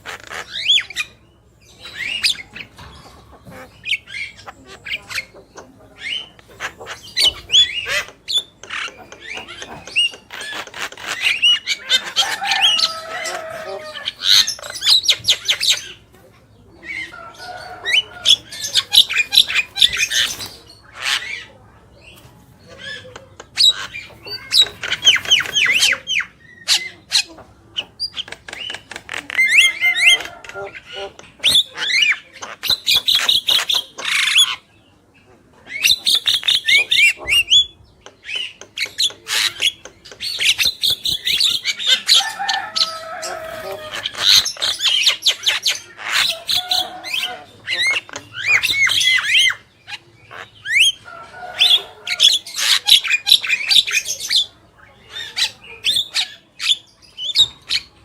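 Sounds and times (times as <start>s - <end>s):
birds chattering and squawking: 0.0s - 58.0s.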